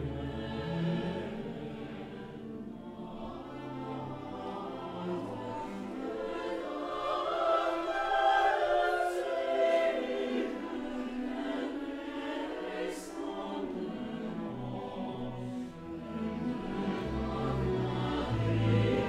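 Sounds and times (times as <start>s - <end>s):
mixed choir singing: 0.0s - 19.0s
orchestral accompaniment: 0.0s - 19.0s.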